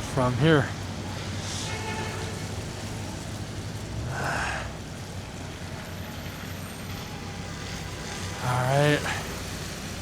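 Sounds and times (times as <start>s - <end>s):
street noise with low rumble: 0.0s - 10.0s.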